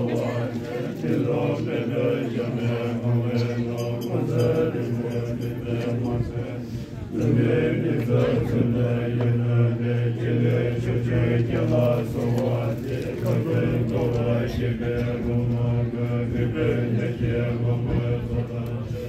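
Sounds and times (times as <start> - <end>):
monks chanting in deep voices: 0.0 - 19.0.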